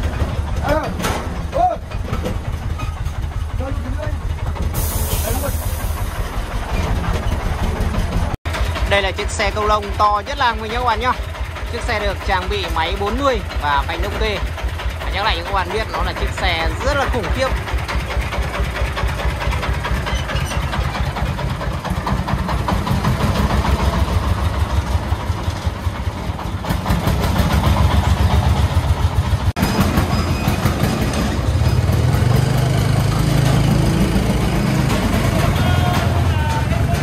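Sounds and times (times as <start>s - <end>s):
truck engine chugging: 0.0s - 37.0s.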